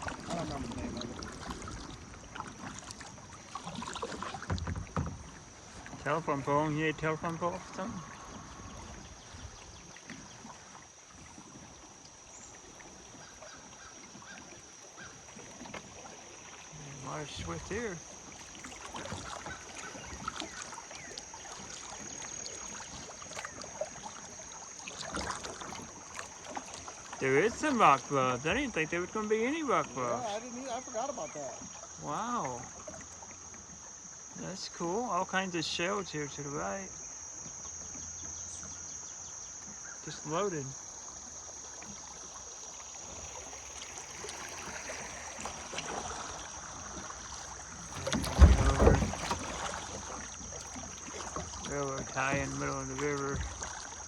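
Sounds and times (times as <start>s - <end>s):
small splashes and drips: 0.0s - 6.1s, 7.5s - 34.4s, 37.4s - 54.0s
high insect buzz: 0.0s - 54.0s
paddle dipping in water: 0.0s - 54.0s
river current lapping: 0.0s - 54.0s.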